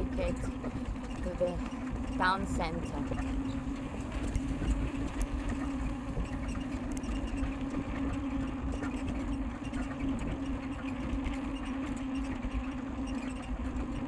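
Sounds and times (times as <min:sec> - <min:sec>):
bicycle riding hum: 0:00.0 - 0:14.0.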